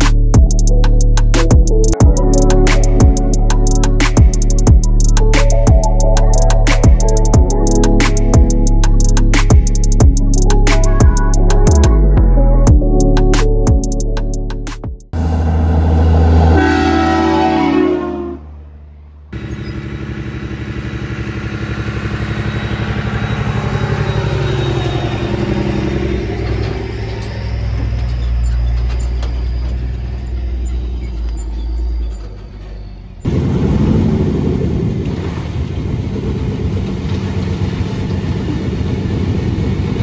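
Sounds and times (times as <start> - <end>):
vehicle engine running: 0.0 - 16.8, 18.4 - 40.0
engine deep rumble: 0.0 - 40.0.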